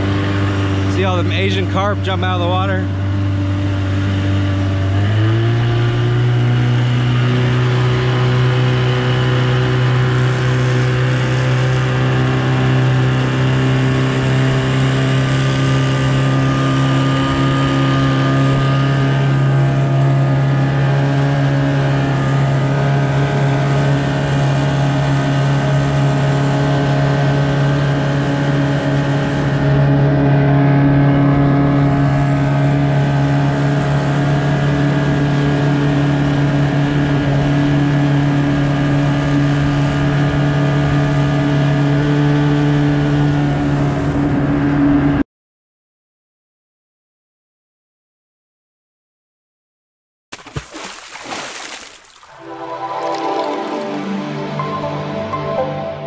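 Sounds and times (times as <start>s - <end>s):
outboard motor running: 0.0s - 45.2s, 50.4s - 54.4s.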